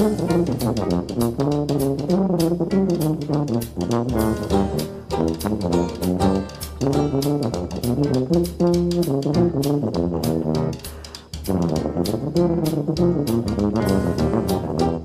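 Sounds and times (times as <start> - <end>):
upbeat jazz with brass and drums: 0.0 - 15.0.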